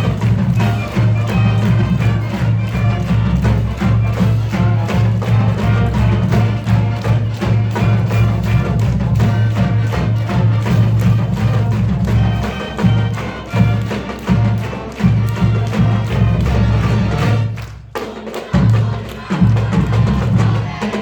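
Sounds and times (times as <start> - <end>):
low brass tones: 0.0 - 17.6
band music with percussion: 0.0 - 21.0.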